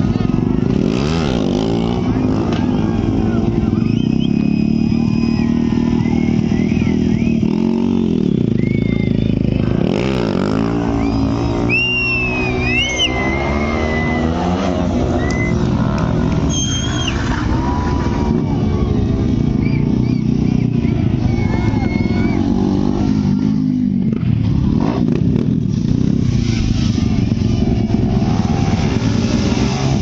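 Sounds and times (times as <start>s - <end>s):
crowd voices: 0.0s - 30.0s
motorcycle engines revving: 0.0s - 30.0s.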